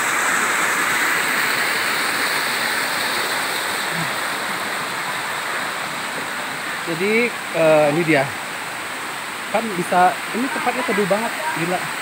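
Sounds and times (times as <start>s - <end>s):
waterfall cascading over rocks: 0.0s - 12.0s.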